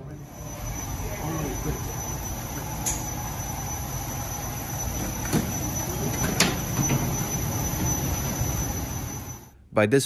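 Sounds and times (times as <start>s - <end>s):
thin high whine: 0.0s - 9.7s.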